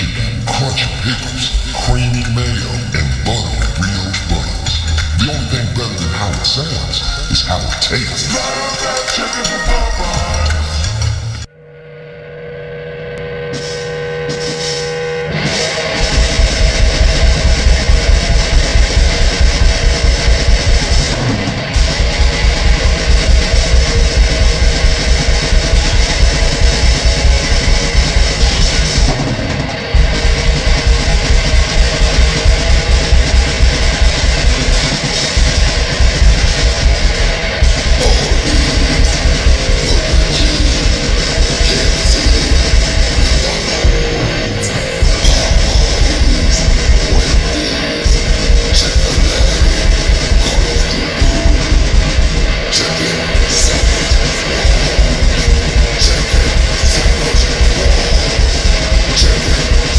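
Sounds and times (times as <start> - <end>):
rapid drums: 0.0 - 11.5, 13.4 - 59.9
distorted electric guitar: 0.0 - 59.9.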